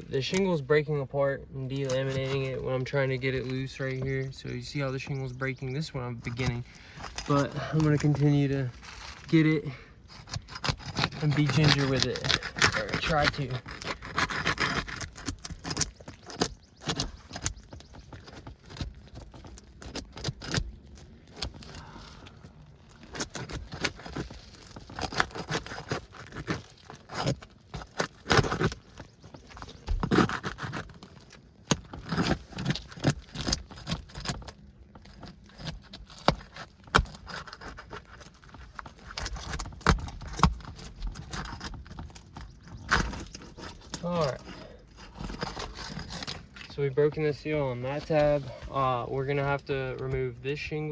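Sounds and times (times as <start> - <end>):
metal tool scraping under shingle: 0.0 - 0.8, 1.6 - 50.9
shingle cracking: 1.6 - 50.9.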